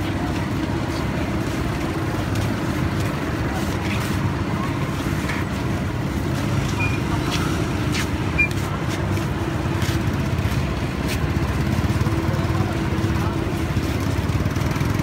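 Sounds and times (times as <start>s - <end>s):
road traffic rumble: 0.0s - 15.0s
vehicle engine running: 0.0s - 15.0s.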